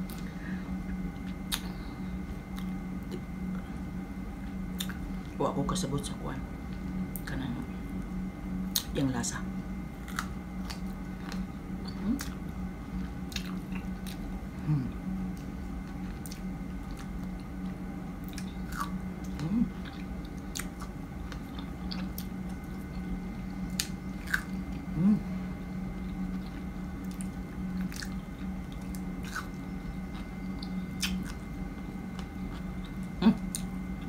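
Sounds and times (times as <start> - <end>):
low background hum: 0.0 - 34.0
chewing strawberries: 1.1 - 3.8, 4.4 - 5.4, 8.6 - 9.0, 9.9 - 34.0.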